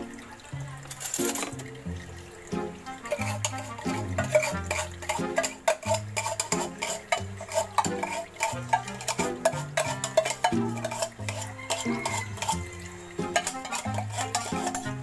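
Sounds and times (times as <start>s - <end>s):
metal utensil scraping tin can: 0.9s - 1.8s, 2.9s - 15.0s.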